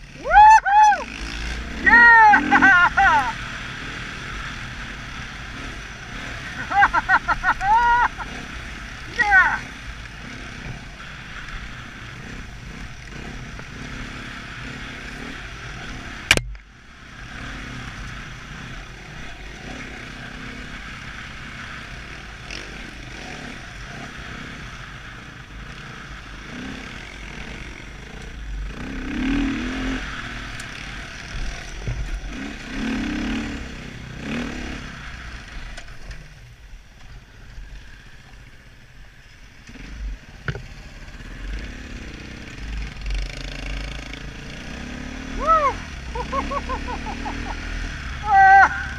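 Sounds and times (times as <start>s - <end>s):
dirt bike engine running: 1.0s - 36.3s, 39.7s - 48.9s.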